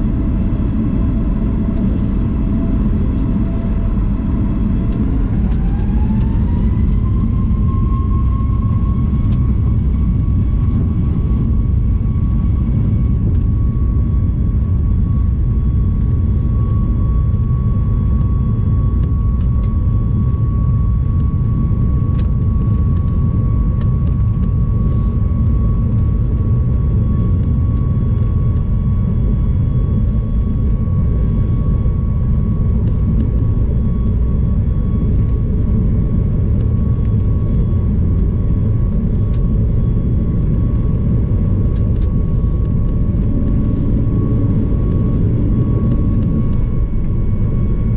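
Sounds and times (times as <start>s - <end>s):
jet engine rumble and whine: 0.0s - 47.9s.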